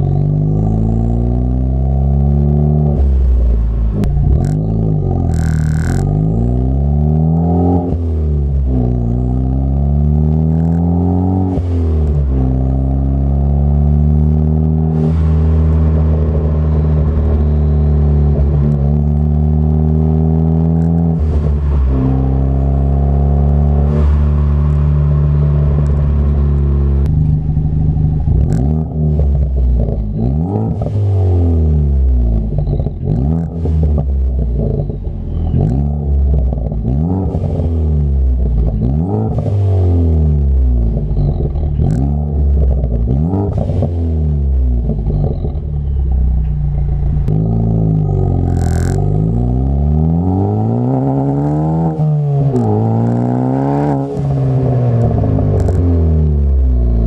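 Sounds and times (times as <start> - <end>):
car engine accelerating: 0.0 - 57.0
car engine revving: 0.0 - 57.0.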